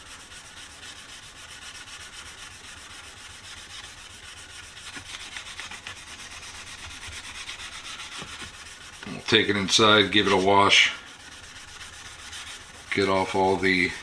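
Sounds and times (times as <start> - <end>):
steel wool rubbing on metal: 0.0 - 14.0.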